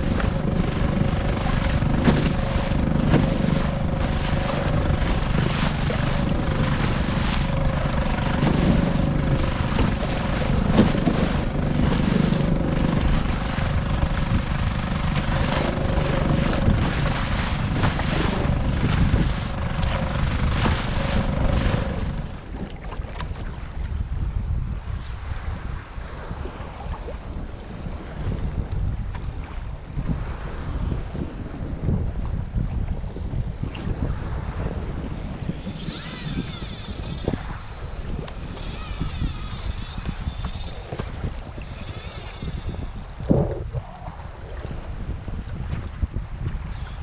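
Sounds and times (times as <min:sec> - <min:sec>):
outboard motor running: 0:00.0 - 0:24.5, 0:26.0 - 0:47.0
wind buffeting microphone: 0:00.0 - 0:47.0.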